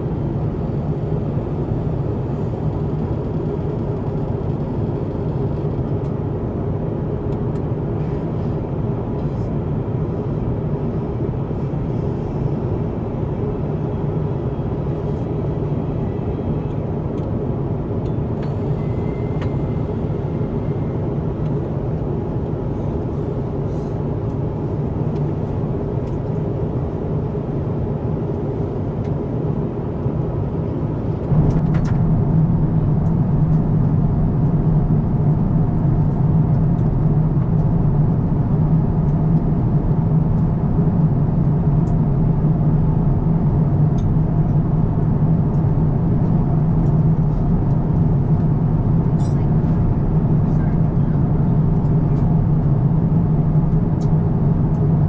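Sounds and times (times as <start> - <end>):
airplane cabin rumble in flight: 0.0 - 55.0.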